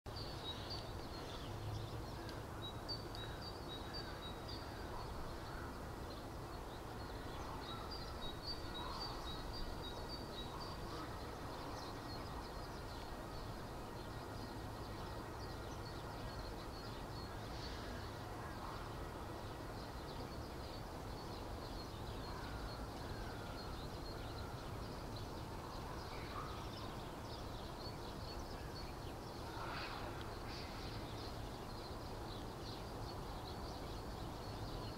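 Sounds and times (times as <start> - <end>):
birds chirping: 0.1 - 34.9
faint low bird calls: 0.1 - 34.9.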